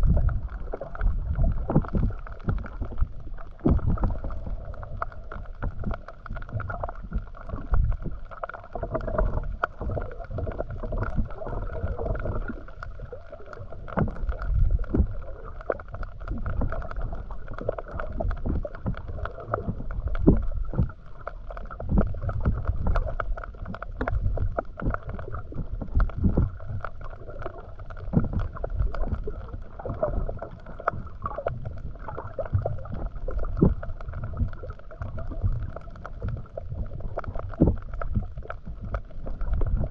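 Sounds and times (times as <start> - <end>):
muffled underwater water movement: 0.0 - 39.9.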